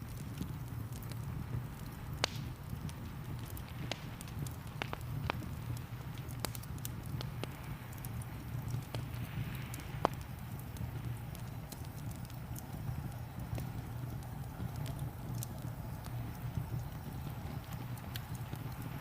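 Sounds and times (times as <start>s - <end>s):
soft rain hiss: 0.0s - 19.0s
wood fire crackling and popping: 0.0s - 19.0s.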